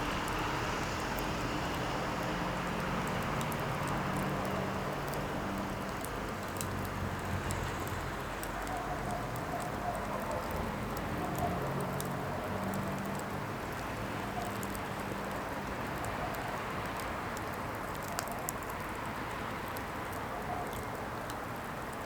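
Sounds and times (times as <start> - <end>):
firewood burning with crackles: 0.0 - 22.0.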